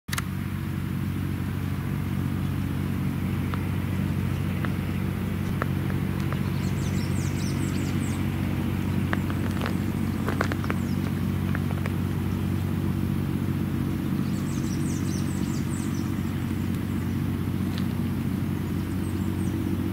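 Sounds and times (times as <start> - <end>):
motor humming: 0.1 - 19.9
small birds chirping: 1.0 - 19.9.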